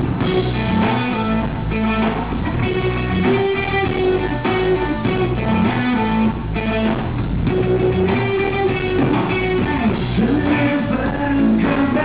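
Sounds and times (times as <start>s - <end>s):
rock band playing: 0.0s - 12.0s
strummed guitar chords: 0.0s - 12.0s.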